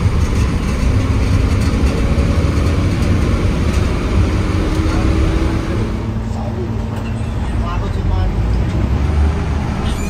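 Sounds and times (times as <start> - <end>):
bus diesel engine rumble: 0.0 - 10.0
road noise: 0.0 - 10.0.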